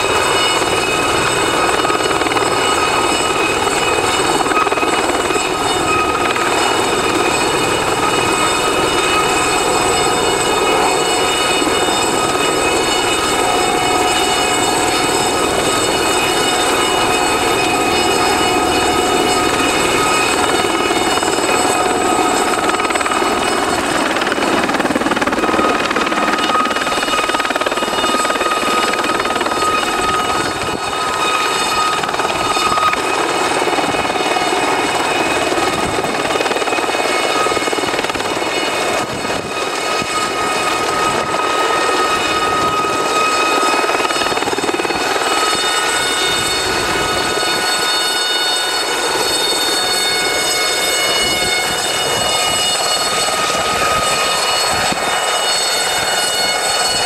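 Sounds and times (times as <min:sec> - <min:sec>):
helicopter rotors din: 0:00.0 - 0:57.0.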